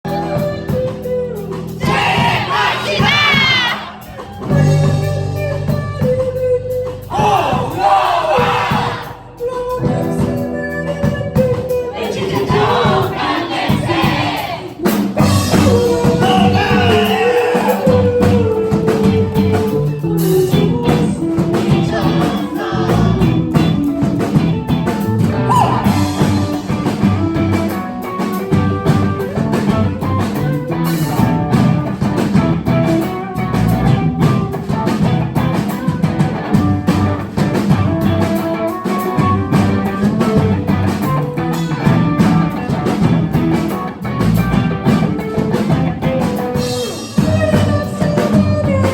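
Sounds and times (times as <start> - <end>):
electric guitar: 0.0 - 7.8, 8.4 - 13.2, 14.6 - 48.9
bass: 0.0 - 48.9
drum kit: 0.0 - 48.9.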